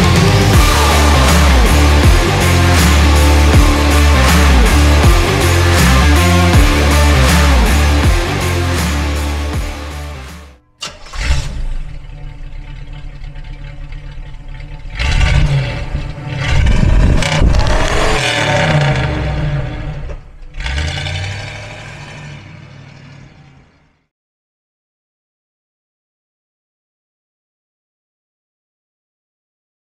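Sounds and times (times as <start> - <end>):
car engine idling and revving: 0.0 - 24.1
car pulling away: 0.0 - 24.1.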